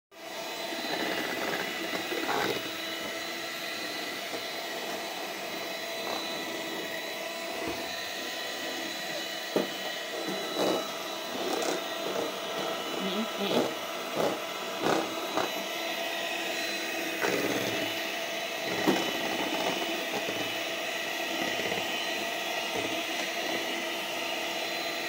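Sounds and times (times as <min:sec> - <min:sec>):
electric hand mixer whirring: 0:00.1 - 0:25.0.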